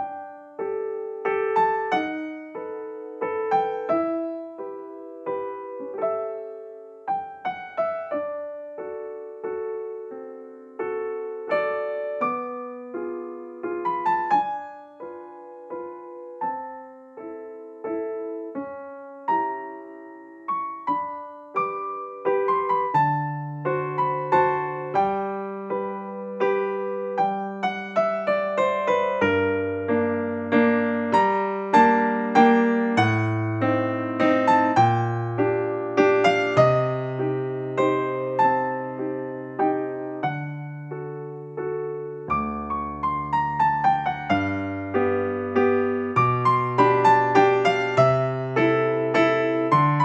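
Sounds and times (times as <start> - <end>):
gentle piano music: 0.0 - 50.0.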